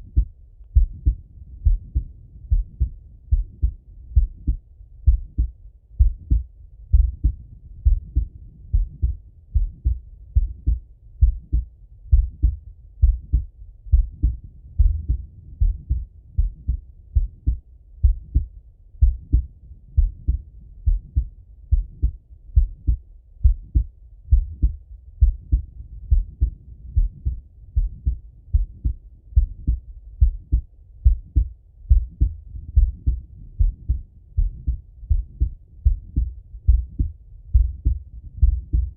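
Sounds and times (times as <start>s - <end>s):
heartbeat through stethoscope: 0.0s - 38.9s.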